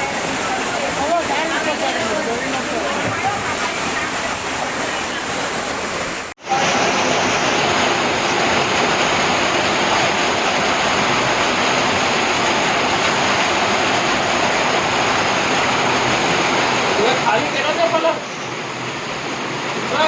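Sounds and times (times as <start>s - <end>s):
heavy rain and running water: 0.0s - 20.0s.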